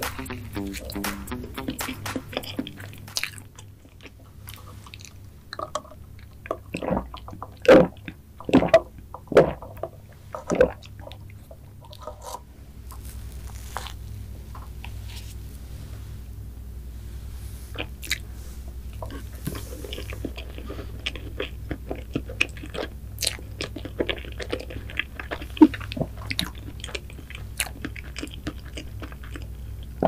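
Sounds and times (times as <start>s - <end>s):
soft chewing: 2.3s - 15.4s, 17.7s - 30.0s.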